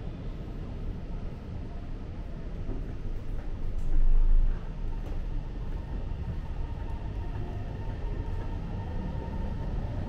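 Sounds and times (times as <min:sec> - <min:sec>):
train rumbling in tunnel: 0:00.0 - 0:10.0.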